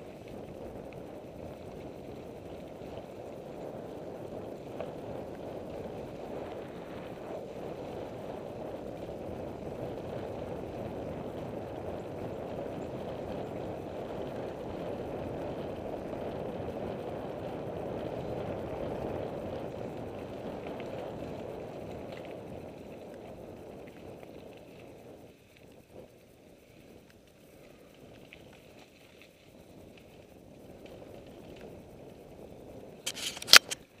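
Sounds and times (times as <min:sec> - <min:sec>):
rushing noise of riding a trail: 0:00.0 - 0:34.0.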